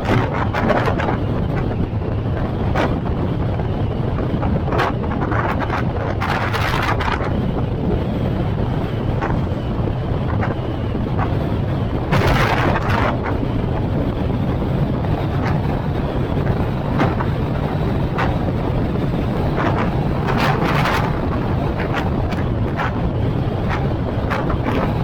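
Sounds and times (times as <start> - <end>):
vehicle road rumble: 0.0 - 25.0
wind buffeting microphone: 0.0 - 25.0.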